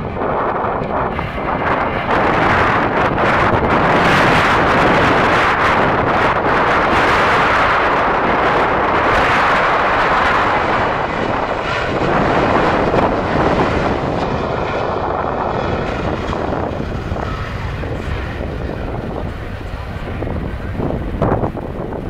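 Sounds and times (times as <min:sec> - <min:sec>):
jet engine rush: 0:00.0 - 0:22.0
turbine whine: 0:00.0 - 0:22.0.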